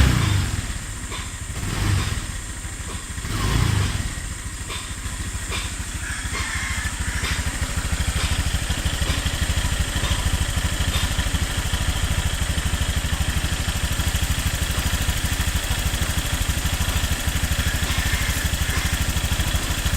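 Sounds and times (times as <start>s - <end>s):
engine ticking: 0.0s - 19.9s
scooter engine idling: 0.0s - 19.9s.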